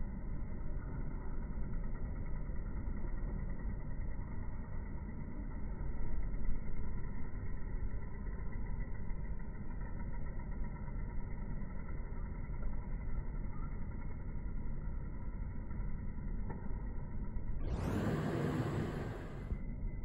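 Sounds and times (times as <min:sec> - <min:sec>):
muffled low outdoor rumble: 0:00.0 - 0:20.0.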